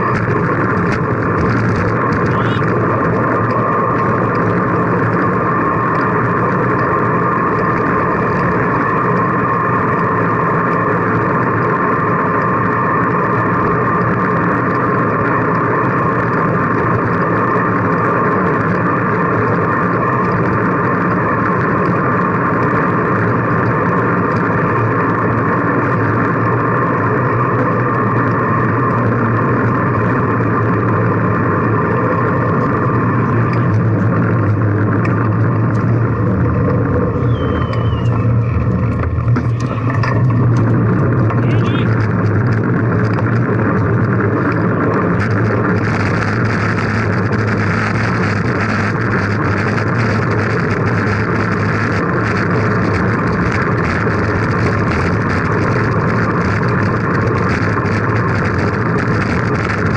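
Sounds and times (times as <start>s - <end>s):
muffled bicycle rolling: 0.0s - 59.9s.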